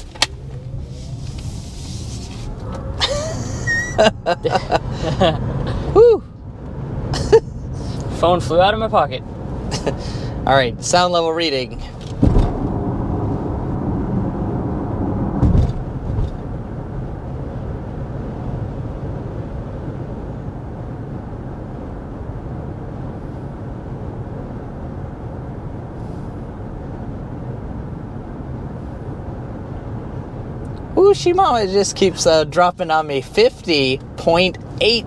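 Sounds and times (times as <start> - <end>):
road and wind noise in car cabin: 0.0 - 35.0.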